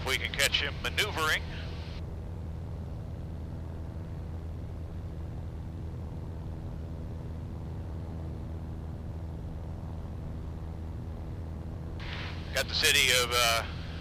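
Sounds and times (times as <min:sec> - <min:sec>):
airplane engine and propeller drone: 0:00.0 - 0:14.0.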